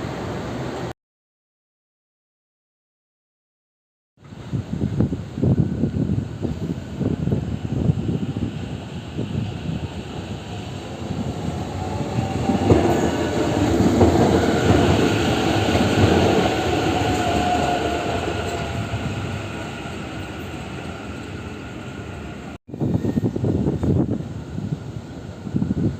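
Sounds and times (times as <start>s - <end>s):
train wheels rumbling on rails: 4.2s - 25.9s.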